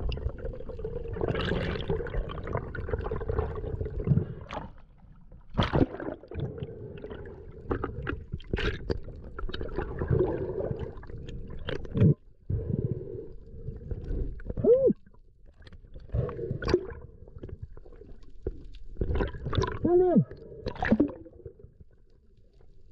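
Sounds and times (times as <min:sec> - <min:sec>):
water gurgling and sloshing: 0:00.0 - 0:22.9.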